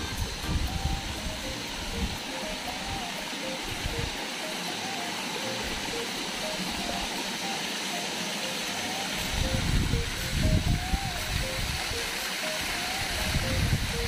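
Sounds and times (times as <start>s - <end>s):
faint background music: 0.0s - 14.0s
waterfall splashing: 0.0s - 14.0s.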